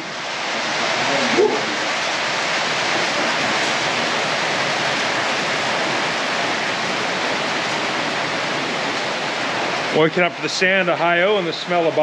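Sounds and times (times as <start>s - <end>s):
heavy rain on metal roof: 0.0s - 12.0s.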